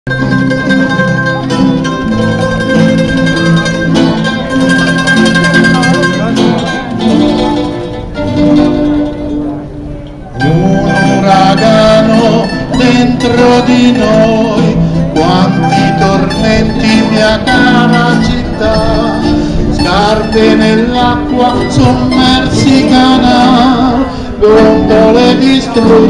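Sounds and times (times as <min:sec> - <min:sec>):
guitars and mandolins playing: 0:00.1 - 0:26.0.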